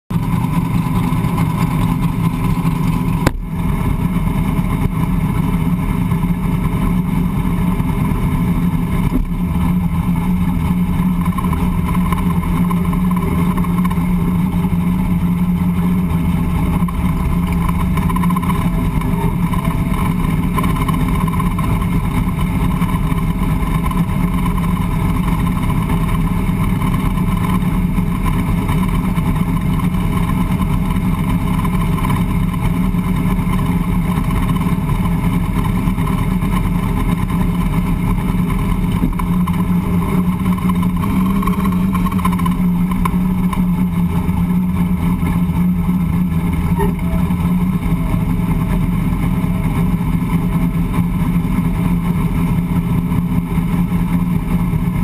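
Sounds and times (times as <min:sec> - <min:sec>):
race car engine idling: 0:00.1 - 0:55.0.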